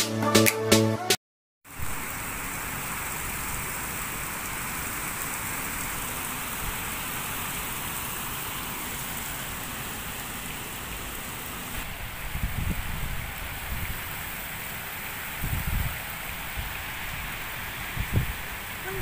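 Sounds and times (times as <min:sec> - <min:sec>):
rain falling on wet grass: 0:01.7 - 0:19.0.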